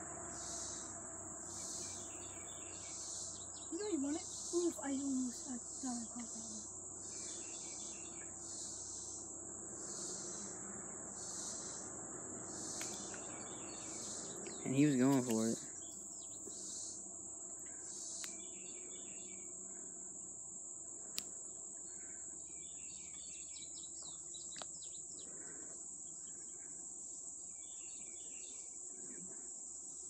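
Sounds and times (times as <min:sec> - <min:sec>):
birds chirping: 0:00.0 - 0:20.0, 0:21.7 - 0:26.8
insects droning: 0:00.0 - 0:30.0.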